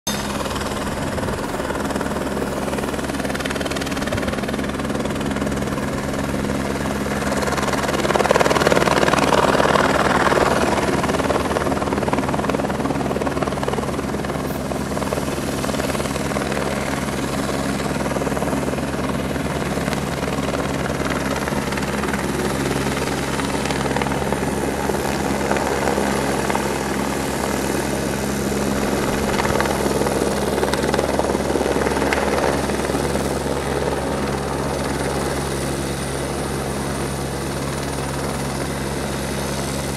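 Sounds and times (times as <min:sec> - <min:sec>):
helicopter rotor and engine: 0:00.1 - 0:39.9.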